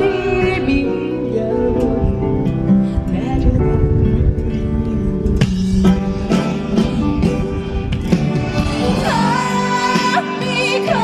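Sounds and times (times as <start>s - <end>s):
slow guitar ballad accompaniment: 0.0s - 11.0s.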